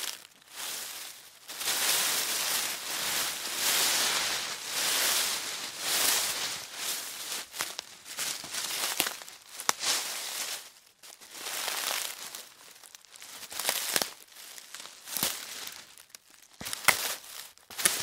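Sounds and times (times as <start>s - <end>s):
footsteps crunching dry leaves: 0.0s - 18.0s.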